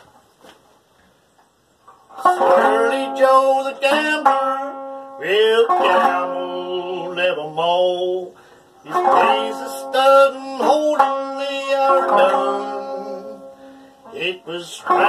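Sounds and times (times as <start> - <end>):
banjo picking: 1.9 - 15.0.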